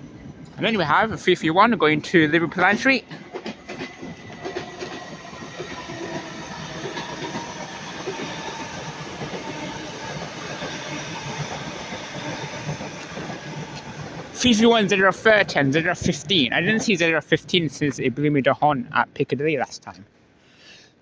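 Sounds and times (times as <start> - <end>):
train wheels rushing on rail: 0.0 - 18.8.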